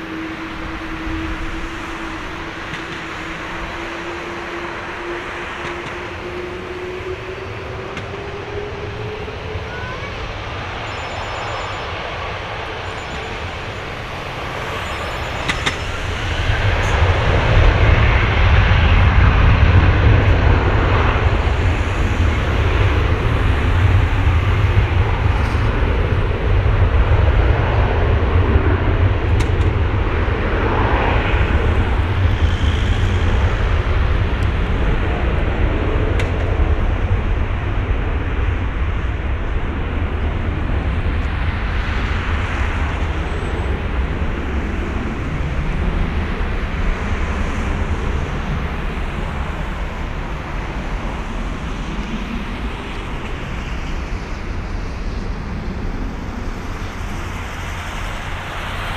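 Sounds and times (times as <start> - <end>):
jet engines rumbling: 0.0 - 58.9.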